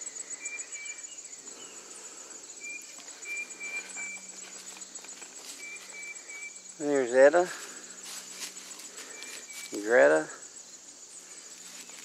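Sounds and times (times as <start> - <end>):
insects trilling: 0.0 - 12.0
short high insect notes: 0.0 - 12.0.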